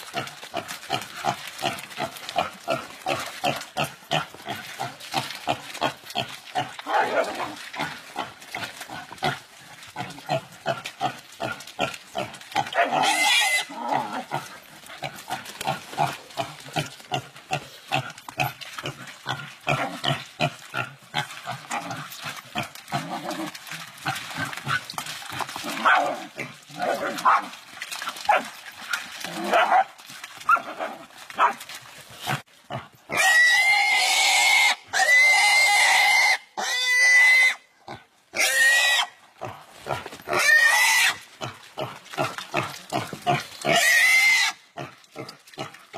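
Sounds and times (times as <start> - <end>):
pig grunting and squealing: 0.0 - 31.6, 32.2 - 45.9.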